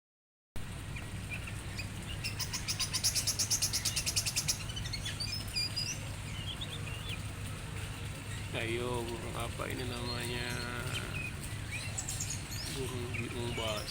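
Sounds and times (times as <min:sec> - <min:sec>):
songbirds chirping trill: 0:00.6 - 0:13.9.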